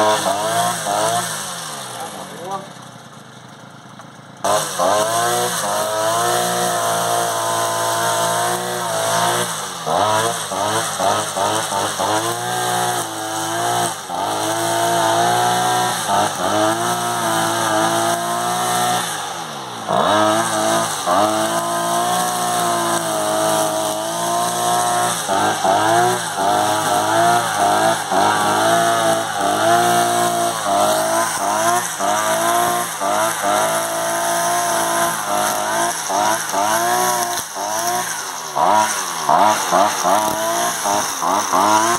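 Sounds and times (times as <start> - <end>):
nylon line cutting grass: 0.0 - 2.7, 4.4 - 41.9
brush cutter engine revving: 0.0 - 41.9.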